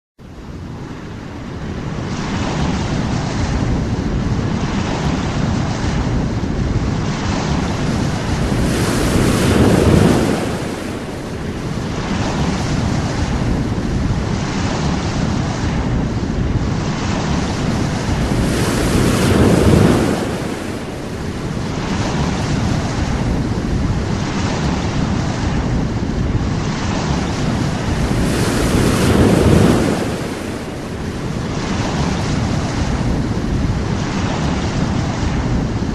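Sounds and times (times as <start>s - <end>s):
waves breaking on shore: 0.3s - 35.9s
surf rushing: 1.0s - 35.9s.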